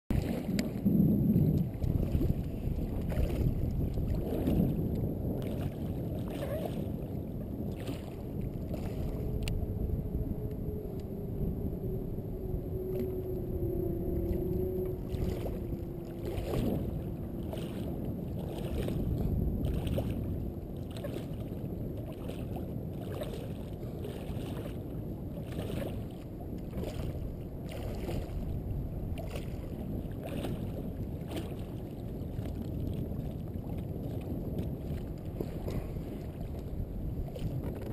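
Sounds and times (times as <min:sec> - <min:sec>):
water splashing from fin kicks: 0:00.1 - 0:09.6, 0:14.2 - 0:37.9
wind on camera housing: 0:00.1 - 0:20.7, 0:24.7 - 0:37.9.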